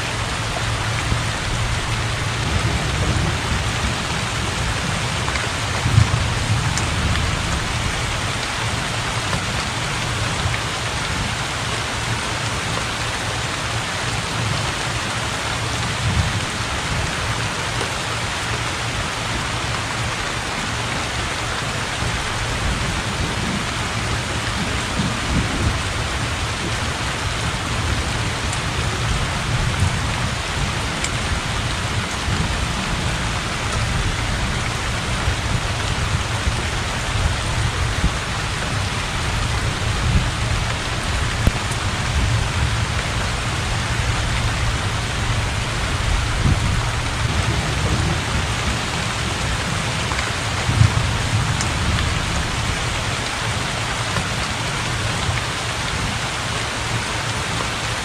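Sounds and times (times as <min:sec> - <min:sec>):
heavy rain on water: 0:00.0 - 0:58.0.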